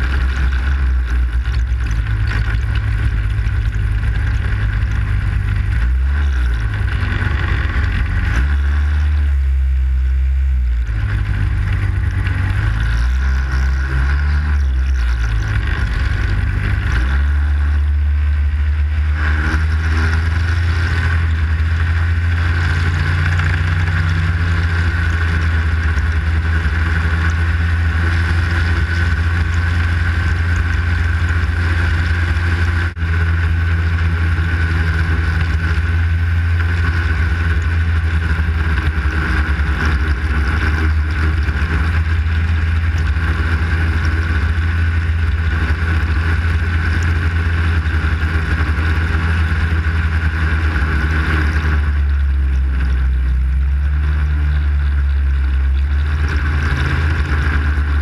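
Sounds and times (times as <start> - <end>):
snowmobile engine running: 0.0 - 58.0
steady high whine: 0.0 - 58.0.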